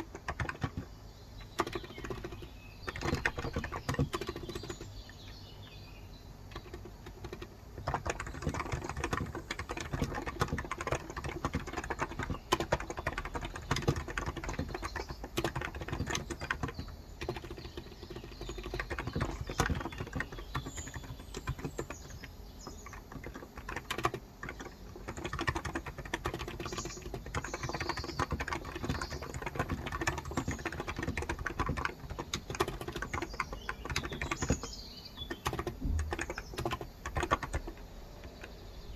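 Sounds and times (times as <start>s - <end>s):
fast typing on keyboard: 0.0s - 38.6s
birds chirping: 0.0s - 38.9s.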